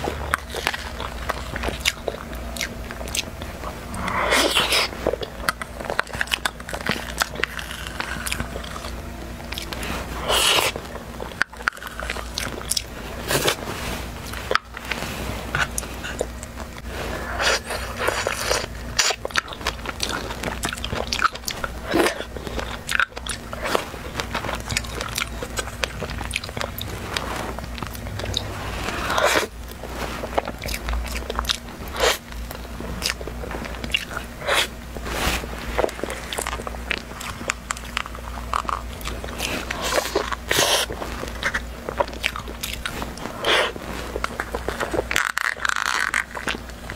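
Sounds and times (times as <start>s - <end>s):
chewing: 0.0s - 46.9s.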